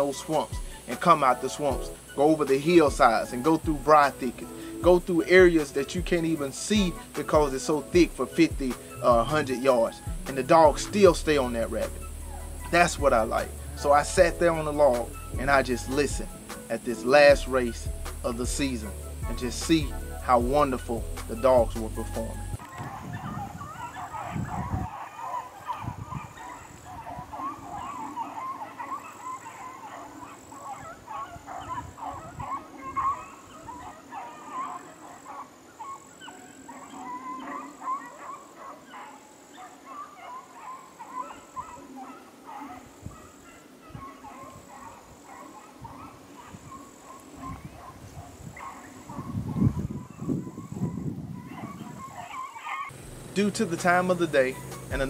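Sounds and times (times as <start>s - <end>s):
hounds baying: 0.0s - 55.0s.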